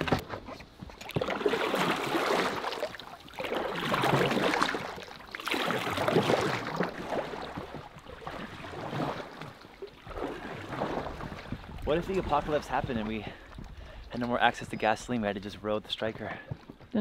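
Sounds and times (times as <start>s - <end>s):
oars splashing through water: 0.0s - 16.5s.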